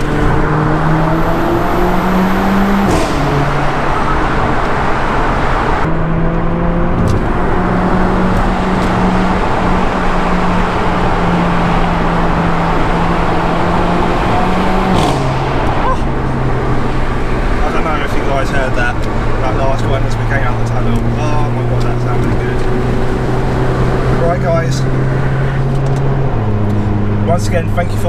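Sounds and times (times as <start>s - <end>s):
heavy road noise: 0.0s - 28.0s
turbocharged car engine pulling: 0.0s - 28.0s.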